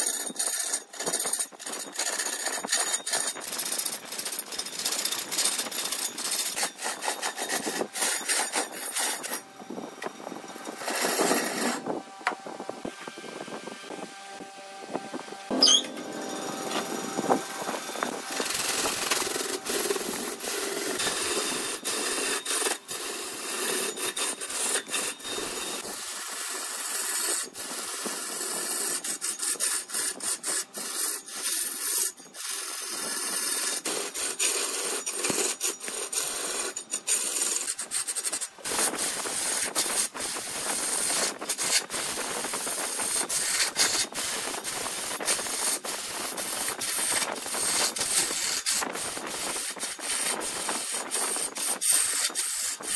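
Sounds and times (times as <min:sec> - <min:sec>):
lathe tool scraping wood: 0:00.0 - 0:52.9.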